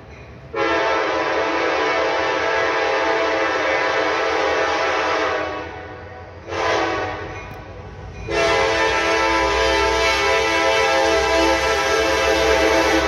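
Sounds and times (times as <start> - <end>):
train rumble: 0.0 - 13.0
locomotive air horn blasts: 0.5 - 7.3, 8.3 - 13.0.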